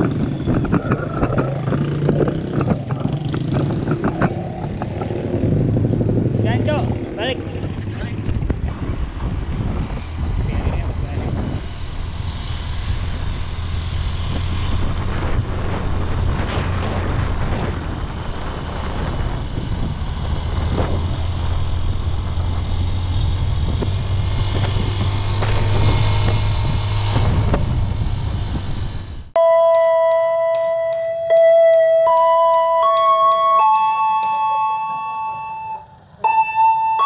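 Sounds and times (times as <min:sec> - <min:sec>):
vehicles rumbling: 0:00.0 - 0:37.0.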